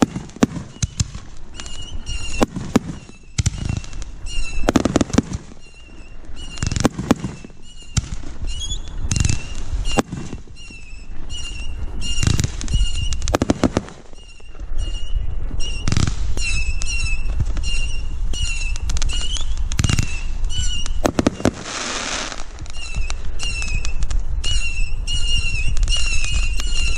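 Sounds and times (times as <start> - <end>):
fireworks hissing burst: 0.0 - 15.0, 15.8 - 26.9
fireworks bangs and crackles: 0.0 - 26.9.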